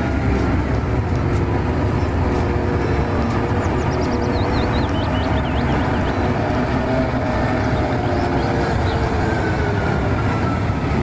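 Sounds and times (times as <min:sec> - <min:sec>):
heavy truck diesel engine: 0:00.0 - 0:11.0.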